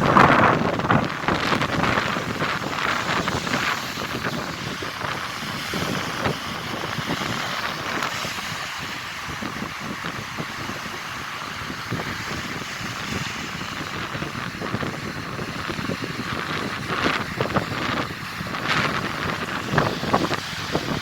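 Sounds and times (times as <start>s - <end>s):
waves breaking: 0.0s - 21.0s
wind buffeting microphone: 0.0s - 21.0s.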